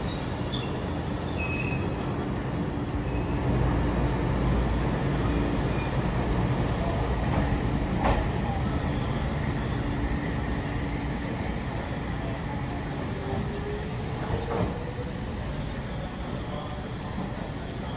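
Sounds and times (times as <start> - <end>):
tram rumble: 0.0 - 17.9.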